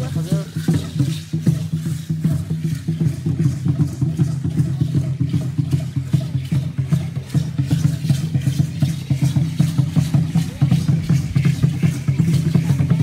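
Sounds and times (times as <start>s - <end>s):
deep drum beating fast: 0.0s - 13.0s.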